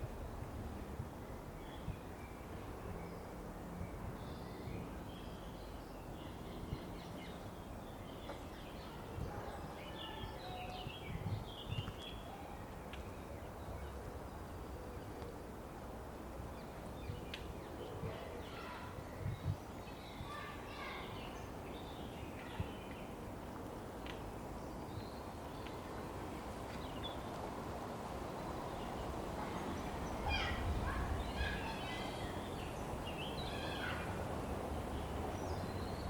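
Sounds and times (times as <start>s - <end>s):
songbirds chirping: 0.1s - 36.0s.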